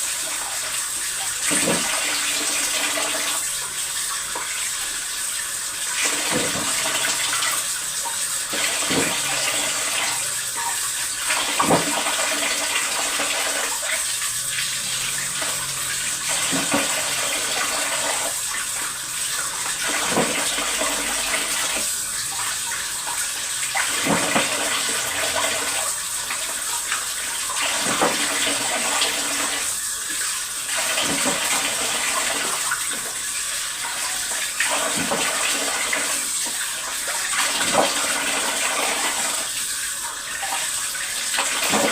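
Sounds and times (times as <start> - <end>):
water running from tap: 0.0 - 41.9.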